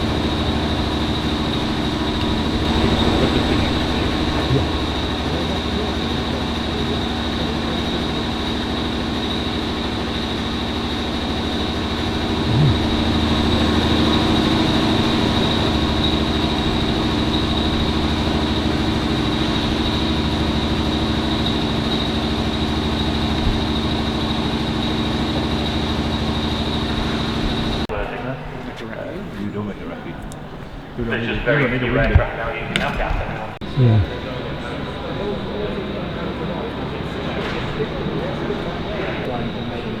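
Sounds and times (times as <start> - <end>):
engine drone with whine: 0.0 - 27.9, 33.5 - 40.0.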